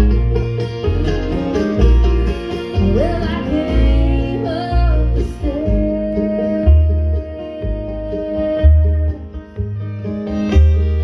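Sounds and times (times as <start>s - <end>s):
bluegrass string band playing: 0.0s - 11.0s
upright bass notes: 0.0s - 11.0s.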